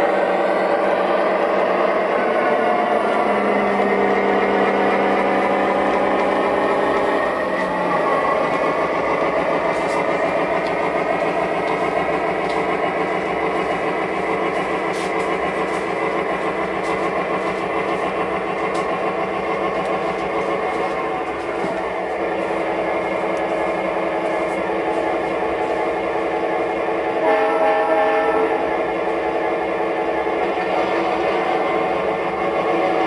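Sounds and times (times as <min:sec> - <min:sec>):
model train running: 0:00.0 - 0:33.0.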